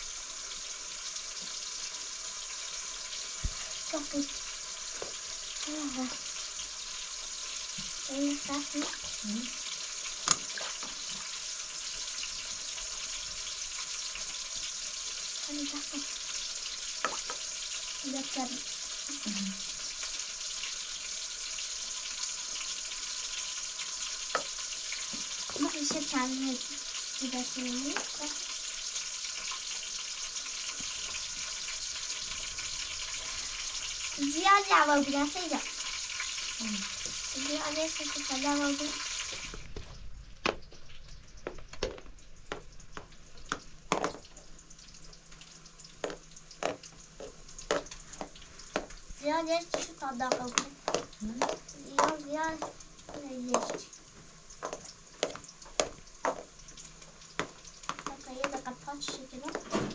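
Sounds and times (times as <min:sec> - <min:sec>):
food sizzling in oil: 0:00.0 - 0:59.9
crackling and popping: 0:00.5 - 0:59.9.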